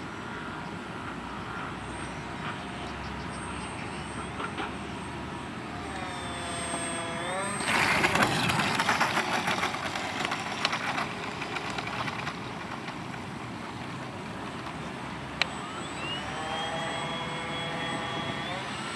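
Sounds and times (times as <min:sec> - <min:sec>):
model jet engine hiss and whine: 0:00.0 - 0:18.9.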